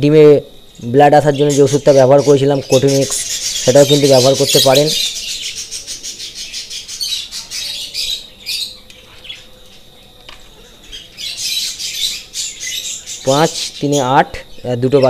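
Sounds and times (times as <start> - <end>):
budgerigars chirping: 1.1 - 9.5, 10.7 - 15.0.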